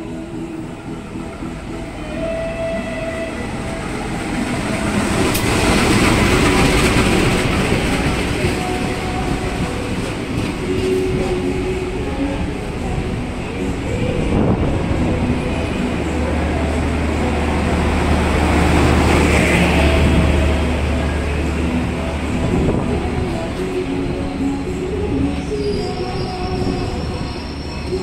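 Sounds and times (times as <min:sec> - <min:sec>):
train rumble and rail clatter: 0:00.0 - 0:28.0.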